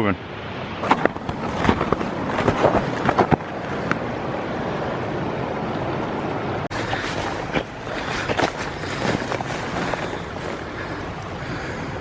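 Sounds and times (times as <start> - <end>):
flowing creek water: 0.1 - 12.0.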